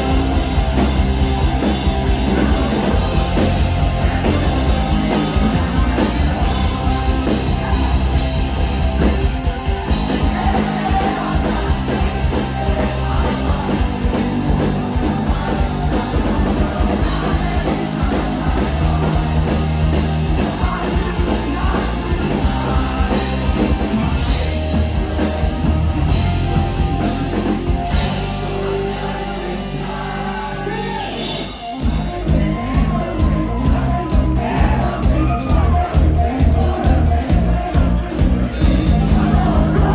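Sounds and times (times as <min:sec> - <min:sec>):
person singing: 0:00.0 - 0:09.2, 0:10.0 - 0:25.9, 0:27.0 - 0:39.9
bass guitar: 0:00.0 - 0:39.9
drums: 0:00.0 - 0:39.9
electric guitars: 0:00.0 - 0:39.9.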